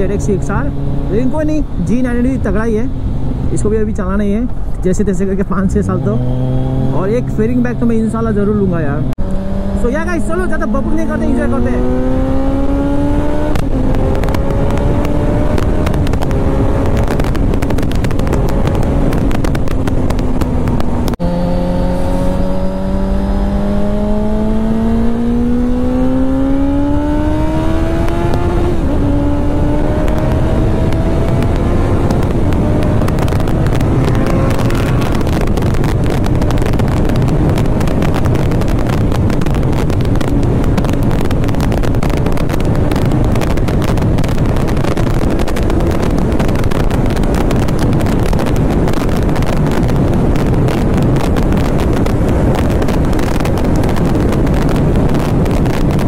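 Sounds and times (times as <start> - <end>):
motorcycle engine accelerating: 0.0 - 4.8, 5.4 - 56.0
wind rush on microphone: 0.0 - 56.0.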